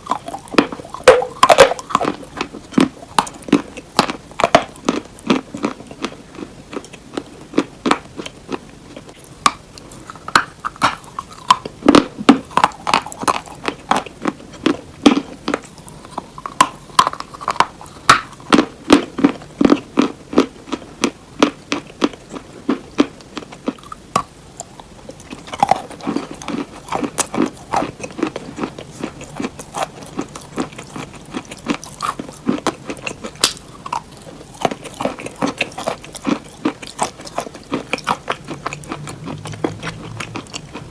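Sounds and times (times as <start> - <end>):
chewing crunchy cheese: 0.0 - 40.9.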